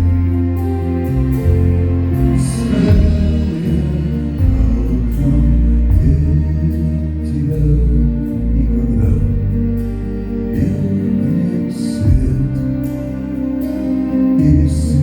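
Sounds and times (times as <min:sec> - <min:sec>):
deep bass notes: 0:00.0 - 0:15.0
live band playing: 0:00.0 - 0:15.0.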